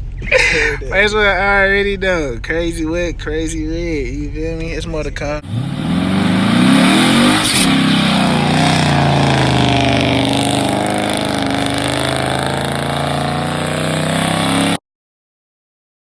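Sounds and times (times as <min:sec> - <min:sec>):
car engine running: 0:00.0 - 0:14.8.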